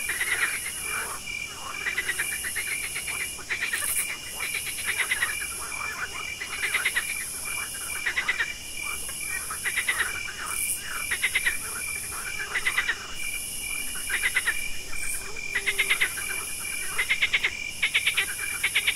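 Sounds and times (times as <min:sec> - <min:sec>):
crickets trilling: 0:00.0 - 0:18.9
frogs clicking calls: 0:00.0 - 0:18.9.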